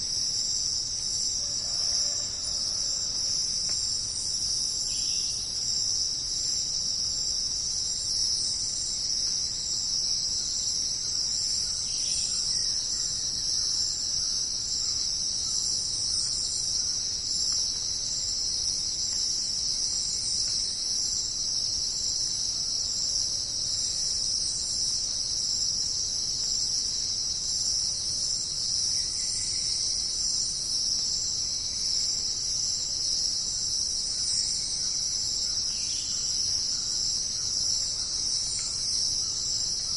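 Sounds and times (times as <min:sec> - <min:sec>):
insect chorus shrill drone: 0:00.0 - 0:39.9.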